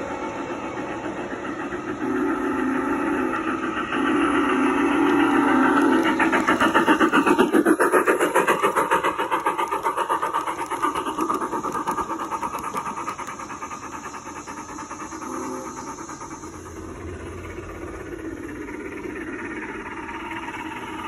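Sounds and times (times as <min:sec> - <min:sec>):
model train clattering past: 0:00.0 - 0:21.0.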